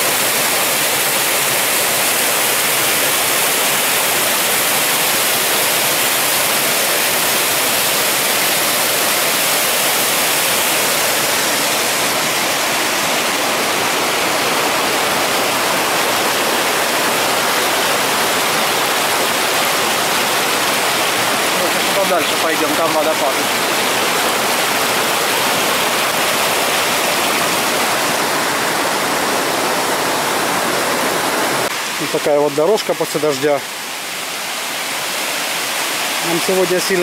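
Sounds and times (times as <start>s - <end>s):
waterfall rushing over rock: 0.0s - 37.0s.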